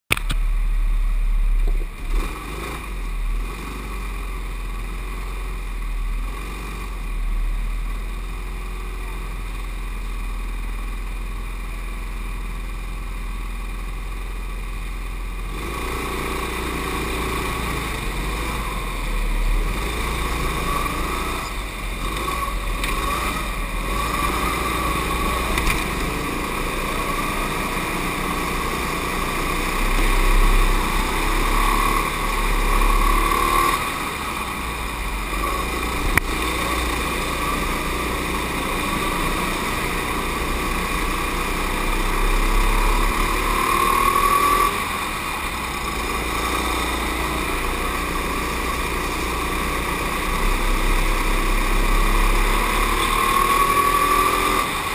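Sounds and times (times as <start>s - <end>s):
go-kart motors: 0.1s - 54.9s.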